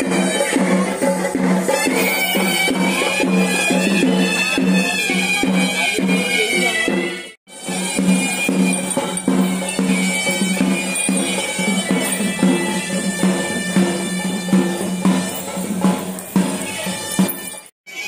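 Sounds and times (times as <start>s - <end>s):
drum strokes: 0.0s - 17.7s
reedy wind instrument melody: 1.7s - 18.0s.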